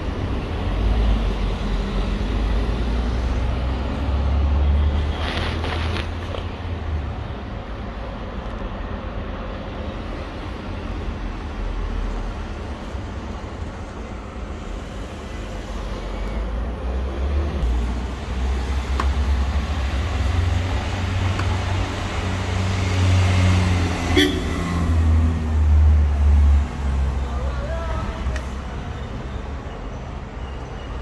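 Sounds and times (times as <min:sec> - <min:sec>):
street traffic rumble: 0:00.0 - 0:31.0.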